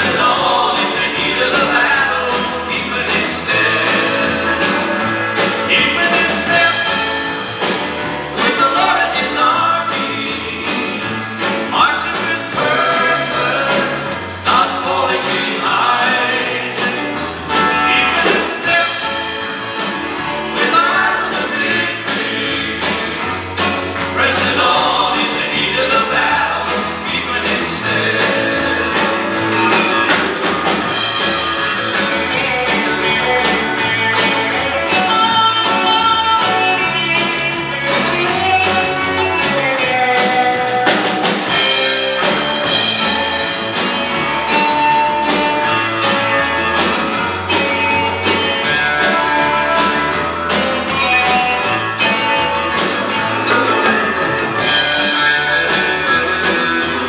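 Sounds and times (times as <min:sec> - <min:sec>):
live gospel band playing: 0:00.0 - 0:57.0.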